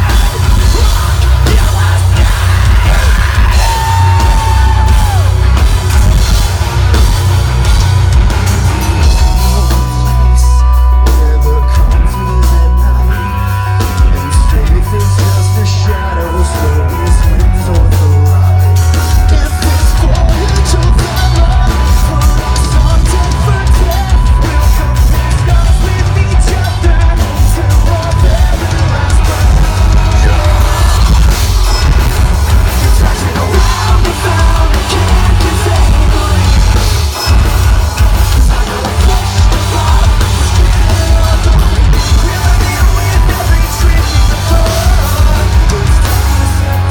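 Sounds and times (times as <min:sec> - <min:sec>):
metalcore band playing live: 0:00.0 - 0:46.9.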